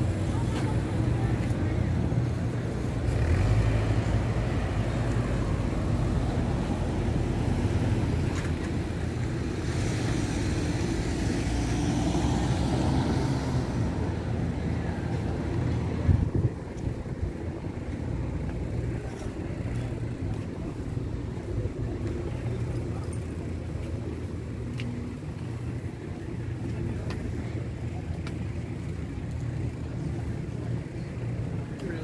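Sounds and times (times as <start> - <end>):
traffic engine hum: 0.0 - 32.0.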